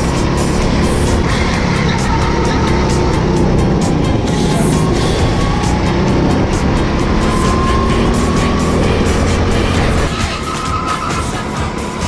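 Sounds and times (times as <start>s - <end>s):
background music: 0.0s - 12.0s
go-kart engine running at speed: 0.0s - 12.0s.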